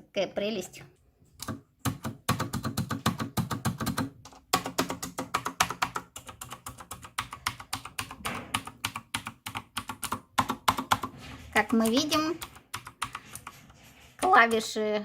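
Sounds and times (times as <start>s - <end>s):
keyboard typing clicks: 1.4s - 13.6s.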